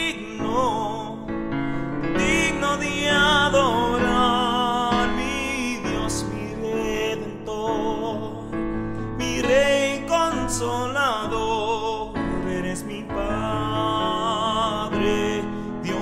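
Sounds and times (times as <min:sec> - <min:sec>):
worship song singing: 0:00.0 - 0:16.0.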